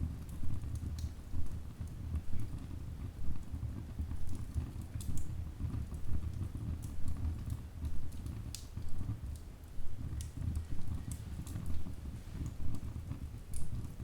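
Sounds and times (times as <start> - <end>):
fire rumbling in fireplace: 0.0 - 14.0.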